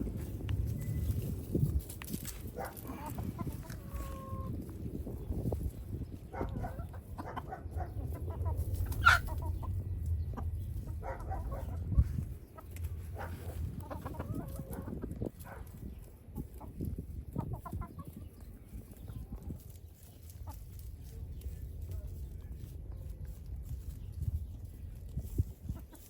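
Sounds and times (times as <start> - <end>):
chickens clucking: 0.0 - 26.0
low rumble of wind: 0.0 - 26.0.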